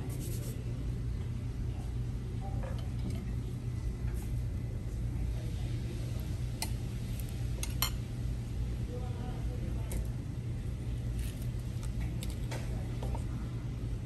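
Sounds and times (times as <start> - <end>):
restaurant dining room hum: 0.0 - 14.0.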